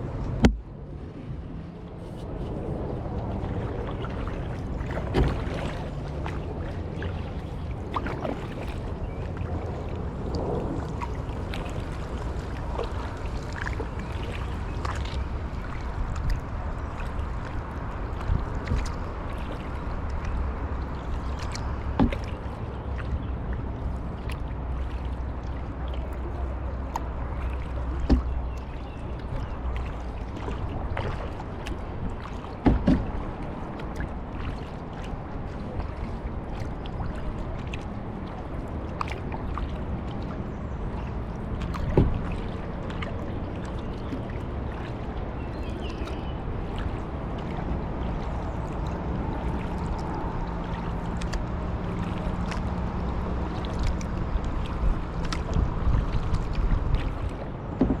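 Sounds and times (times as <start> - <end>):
paddle splashing water: 0.0 - 58.0.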